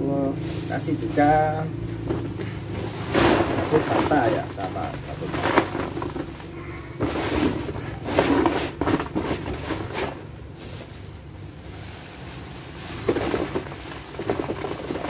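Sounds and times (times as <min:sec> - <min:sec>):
plastic bags rustling: 0:00.1 - 0:15.0.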